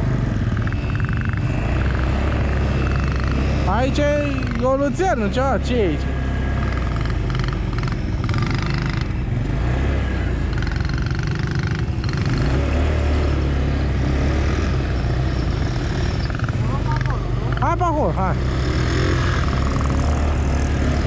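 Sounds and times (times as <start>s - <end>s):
atv engine droning: 0.0s - 21.0s
distant atv engines: 0.0s - 21.0s.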